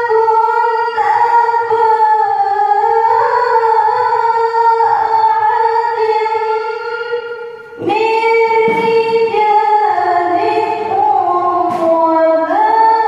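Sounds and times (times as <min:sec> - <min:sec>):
woman reciting melodically: 0:00.0 - 0:13.0.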